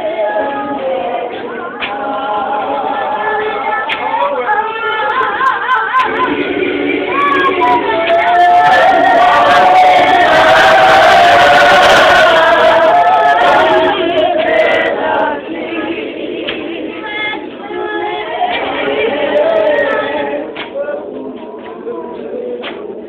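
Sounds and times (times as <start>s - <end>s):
women singing a hymn: 0.0s - 23.0s.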